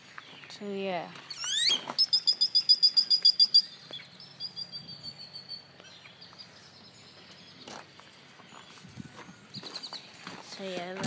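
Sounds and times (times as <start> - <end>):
small bird chirping rapidly: 0.1 - 10.3
faint bird trill: 1.3 - 10.3.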